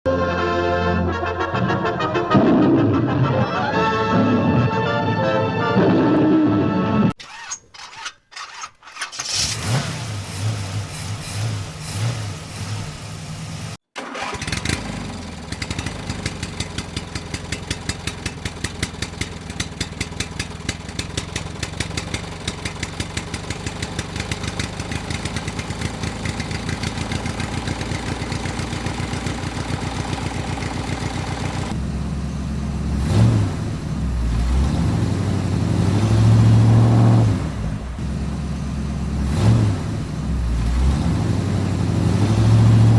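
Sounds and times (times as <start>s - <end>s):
tractor engine puttering: 7.1s - 42.9s.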